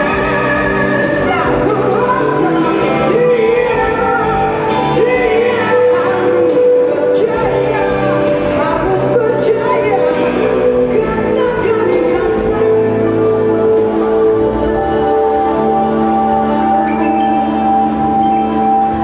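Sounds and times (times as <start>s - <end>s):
jazz-pop band playing: 0.0s - 19.0s
woman singing: 0.0s - 19.0s.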